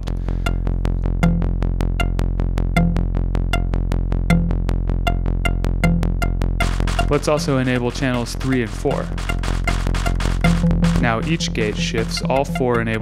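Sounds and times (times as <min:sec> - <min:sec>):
low synth note: 0:00.0 - 0:08.0, 0:10.4 - 0:13.0
rapid clicking synth pulses: 0:00.0 - 0:13.0
steady low hum: 0:00.0 - 0:13.0.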